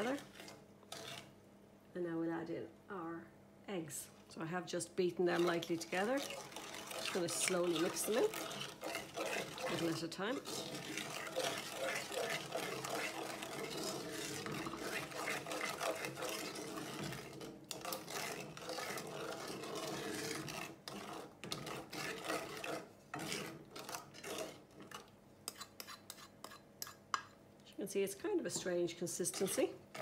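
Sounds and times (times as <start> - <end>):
wooden spoon scraping saucepan: 0.0 - 1.4, 4.8 - 27.3, 28.5 - 30.0.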